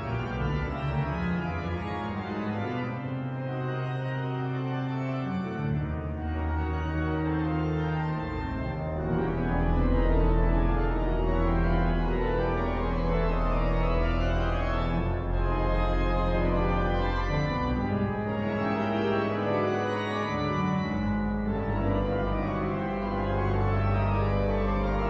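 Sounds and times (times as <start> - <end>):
pipe organ chords: 0.0 - 25.0.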